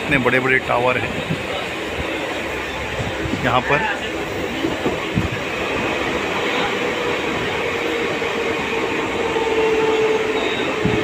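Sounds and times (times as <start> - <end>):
train wheel and air rush: 0.0 - 11.0.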